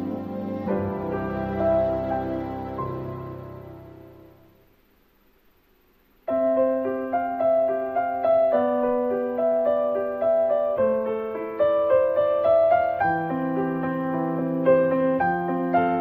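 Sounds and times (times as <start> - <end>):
piano music: 0.0 - 4.7, 6.3 - 16.0.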